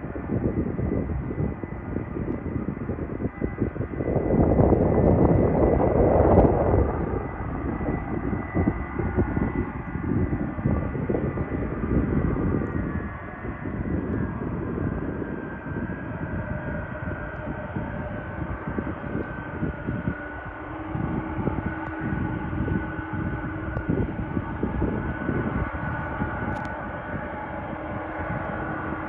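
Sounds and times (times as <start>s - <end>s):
jet engines high whine: 0.0s - 29.0s
jet engines rumble: 0.0s - 29.0s.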